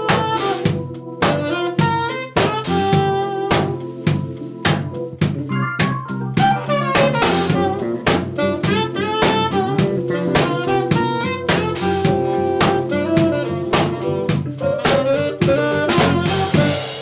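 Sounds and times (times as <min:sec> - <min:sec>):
tenor saxophone: 0:00.0 - 0:04.4, 0:06.3 - 0:17.0
drum kit groove: 0:00.0 - 0:17.0
electric bass: 0:02.4 - 0:17.0.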